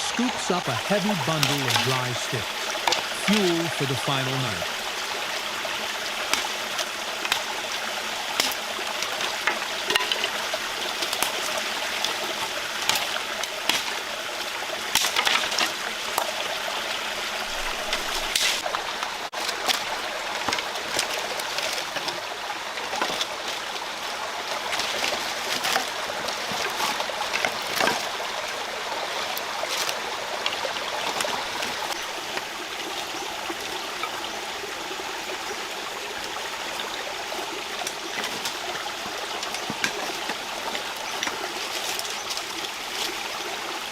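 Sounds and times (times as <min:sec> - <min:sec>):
sharp clicks and splashes: 0:00.0 - 0:34.6, 0:35.2 - 0:43.9
stream trickling over stones: 0:00.0 - 0:43.9.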